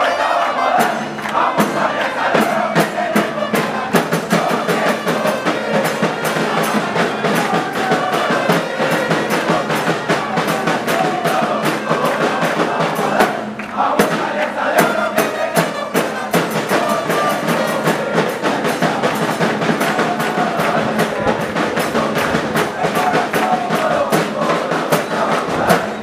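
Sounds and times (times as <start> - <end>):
crowd chanting: 0.0 - 26.0
drums beating: 0.0 - 26.0.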